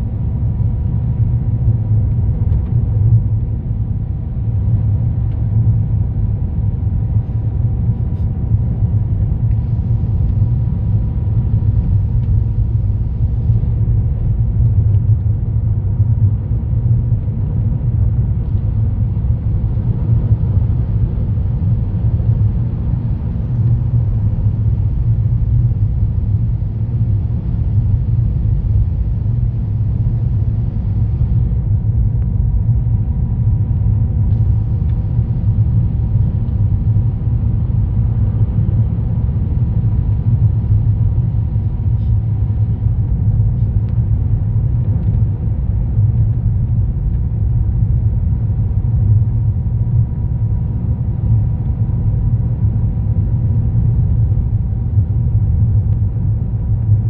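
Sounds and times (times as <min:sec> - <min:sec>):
car tyres and engine rumble: 0:00.0 - 0:57.0
faint steady whine: 0:00.0 - 0:57.0.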